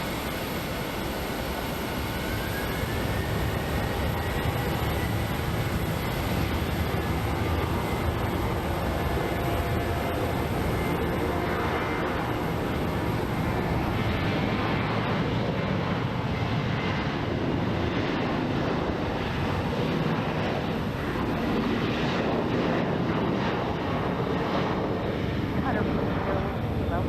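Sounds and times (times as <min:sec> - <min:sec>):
jet engines at takeoff: 0:00.0 - 0:27.0.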